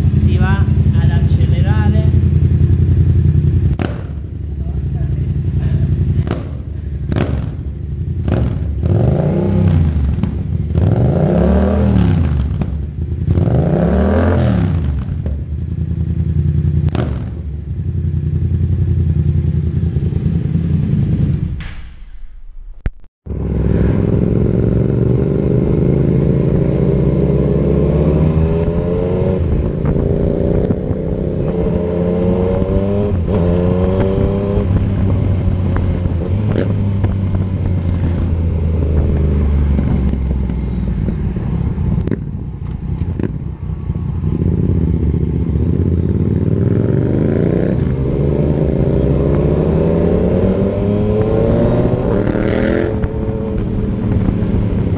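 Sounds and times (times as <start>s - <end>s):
motorcycle accelerating through gears: 0.0s - 21.6s, 23.3s - 54.9s
motorcycle engine revving: 0.0s - 54.9s.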